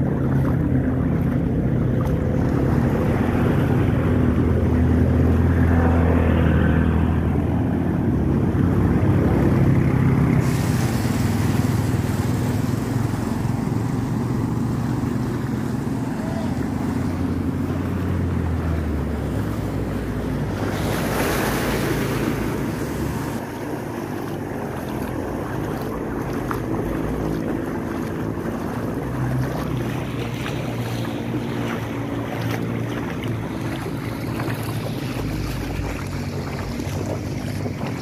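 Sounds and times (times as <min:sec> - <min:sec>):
vehicle engine running: 0:00.0 - 0:38.0
water splashing around vehicle: 0:00.0 - 0:38.0.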